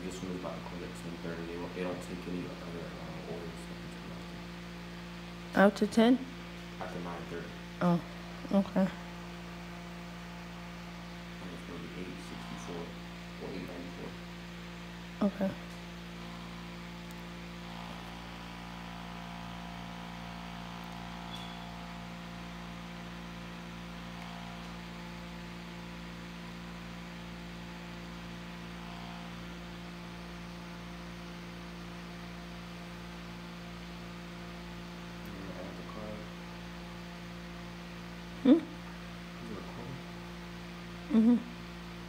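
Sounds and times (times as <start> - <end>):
low electrical hum: 0.0 - 42.0.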